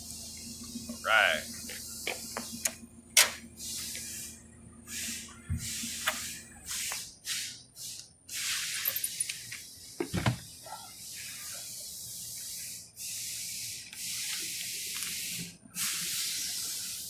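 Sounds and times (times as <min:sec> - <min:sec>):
hydraulics hissing in bursts: 0:00.0 - 0:02.7, 0:03.3 - 0:17.0.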